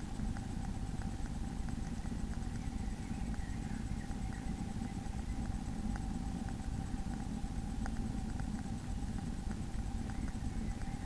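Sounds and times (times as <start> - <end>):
faint irregular ticks: 0.0 - 11.0
thin electrical hum: 0.0 - 11.0.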